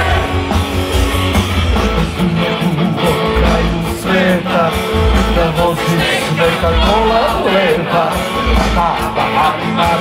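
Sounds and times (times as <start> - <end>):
pitch-bending guitar melody: 0.0 - 10.0
rock band playing loudly: 0.0 - 10.0.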